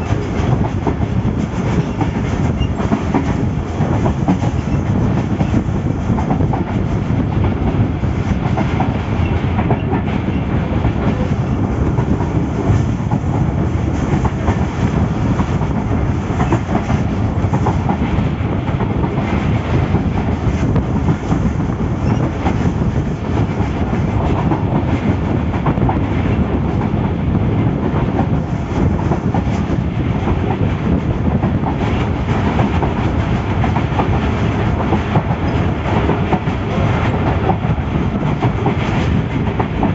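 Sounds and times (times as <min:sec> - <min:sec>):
train coach rumble: 0:00.0 - 0:39.9.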